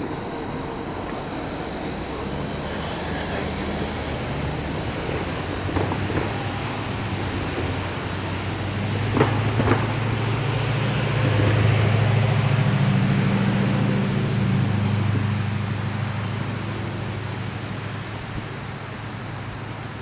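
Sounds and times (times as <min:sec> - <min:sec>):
low mechanical rumble: 0:00.0 - 0:20.0.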